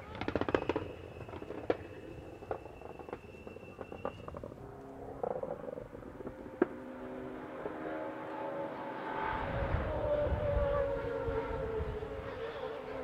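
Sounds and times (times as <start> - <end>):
distant rally car engine: 0.0 - 13.0
thin steady whine: 0.0 - 13.0.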